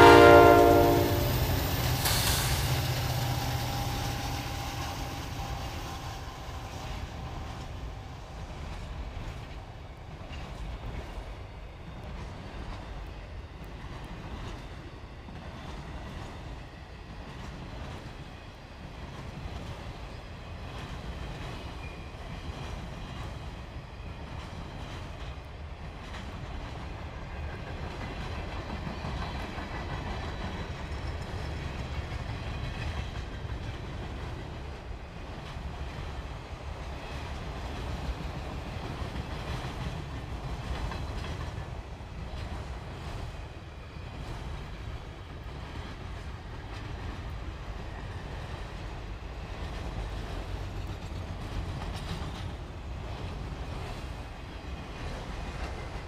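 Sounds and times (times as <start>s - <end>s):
clickety-clack over rail joints: 0.0s - 56.0s.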